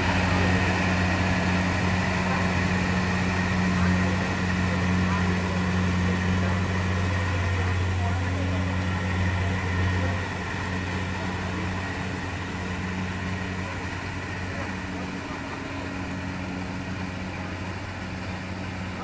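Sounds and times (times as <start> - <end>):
combine harvester diesel engine: 0.0 - 19.0.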